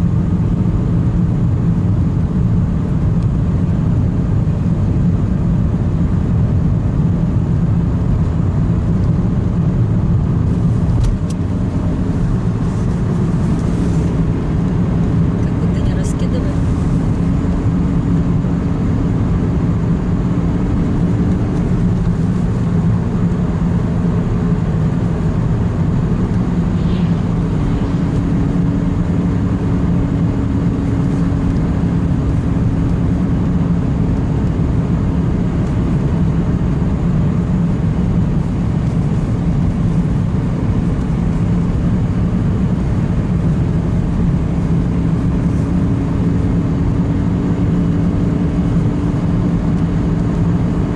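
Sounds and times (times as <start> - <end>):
car engine hum: 0.0 - 50.9
road noise: 0.0 - 50.9.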